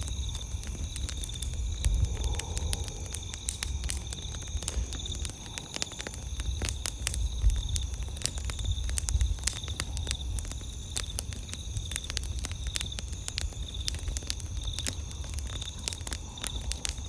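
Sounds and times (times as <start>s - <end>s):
campfire crackling: 0.0s - 17.0s
insects trilling: 0.0s - 17.0s.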